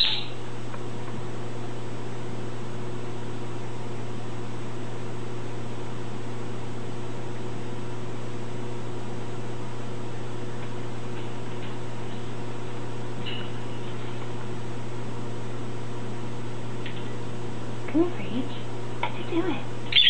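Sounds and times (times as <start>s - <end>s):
machine hum with low drone: 0.0s - 20.0s.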